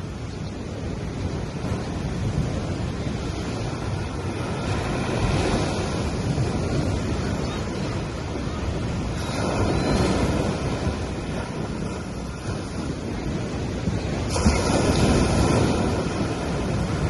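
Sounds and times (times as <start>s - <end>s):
ocean waves on sandy beach: 0.0s - 17.0s.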